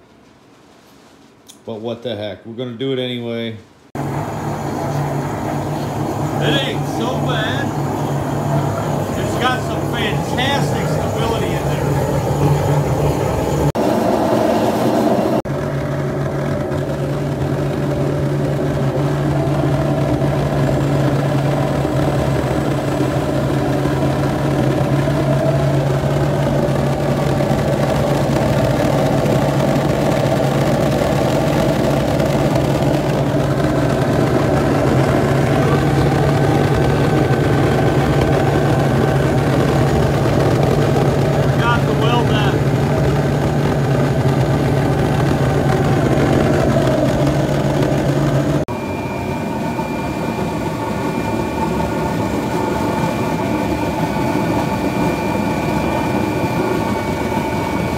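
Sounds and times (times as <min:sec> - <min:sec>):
gas burner flame rushing: 0:03.9 - 0:57.9.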